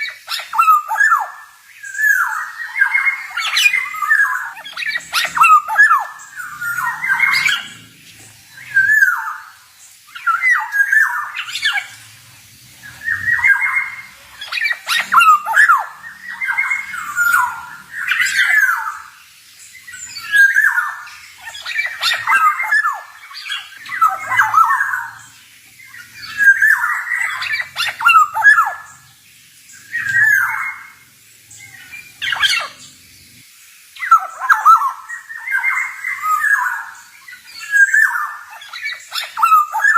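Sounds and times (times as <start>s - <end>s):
fluty whistled bird song: 0.0s - 39.9s.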